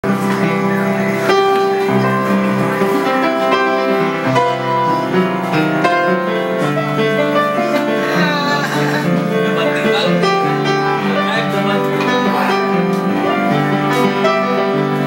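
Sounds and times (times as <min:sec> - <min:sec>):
upright piano melody: 0:00.0 - 0:15.0.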